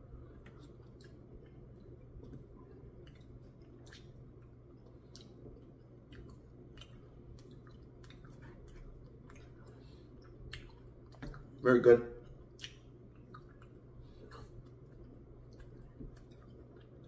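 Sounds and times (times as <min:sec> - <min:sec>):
low steady hum: 0:00.0 - 0:17.0
person chewing: 0:00.1 - 0:11.6, 0:12.2 - 0:17.0.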